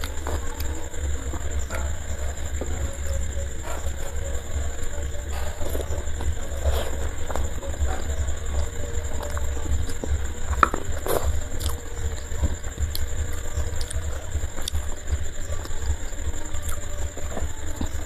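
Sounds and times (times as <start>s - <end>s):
thin high-pitched whine: 0.0s - 18.0s.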